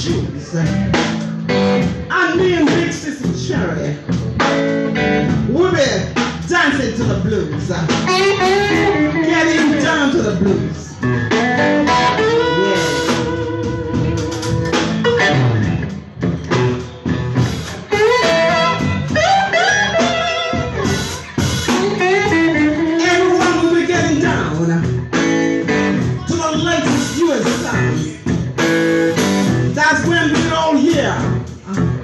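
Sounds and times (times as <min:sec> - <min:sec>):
drum kit: 0:00.0 - 0:32.0
electric guitar: 0:00.0 - 0:32.0.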